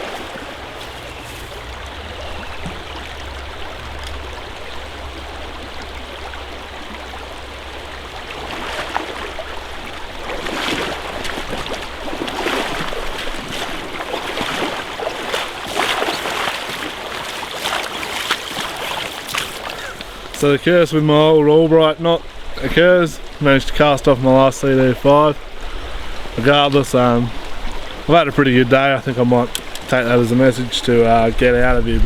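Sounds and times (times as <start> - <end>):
creek water running: 0.0 - 32.0.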